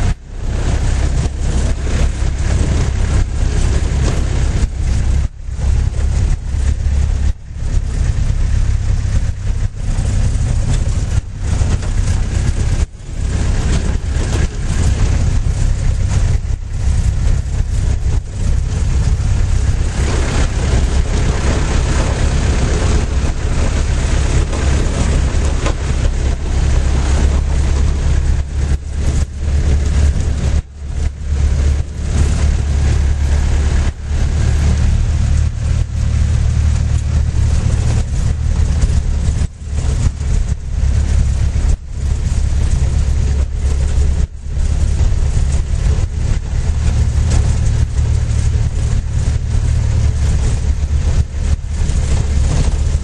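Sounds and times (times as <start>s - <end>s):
car engine drone: 0.0s - 53.0s.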